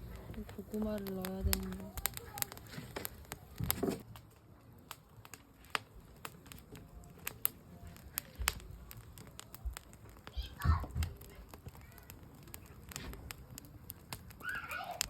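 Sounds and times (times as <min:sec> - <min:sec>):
campfire wood crackling: 0:00.0 - 0:15.0.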